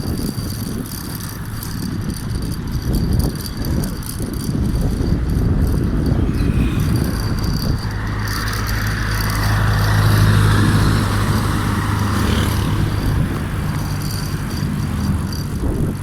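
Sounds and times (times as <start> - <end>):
vehicle engine running: 0.0 - 16.0
wind rumble on microphone: 0.0 - 16.0.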